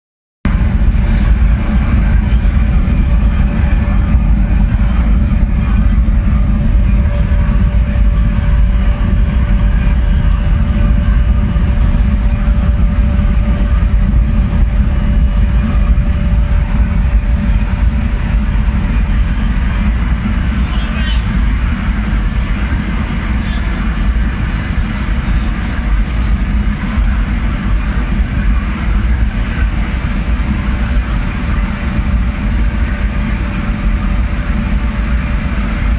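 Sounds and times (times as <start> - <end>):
faint steady whine: 0.5 - 35.9
gas burner combustion rumble: 0.5 - 35.9.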